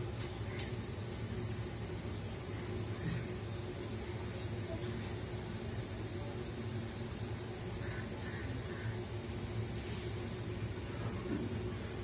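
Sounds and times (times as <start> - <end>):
faint hiss: 0.0 - 12.0
low hum and rumble: 0.0 - 12.0.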